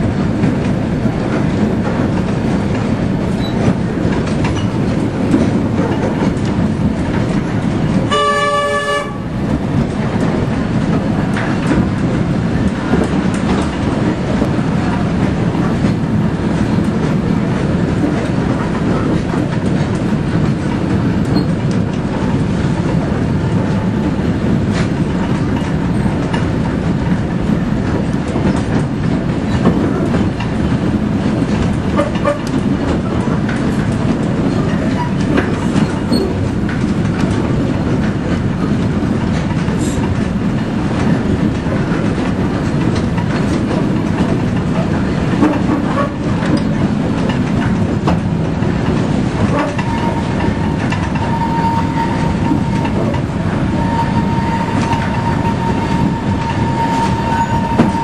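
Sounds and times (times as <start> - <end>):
train running on rails: 0.0 - 58.0.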